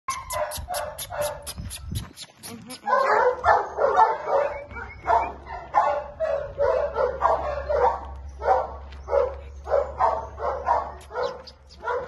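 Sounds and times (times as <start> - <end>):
dog barking: 0.1 - 1.6, 2.8 - 12.0.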